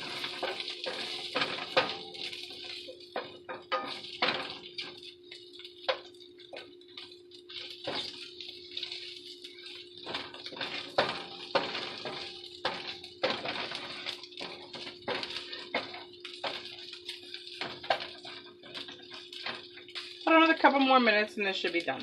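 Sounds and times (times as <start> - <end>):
utensil scraping frying pan: 0.0 - 22.0.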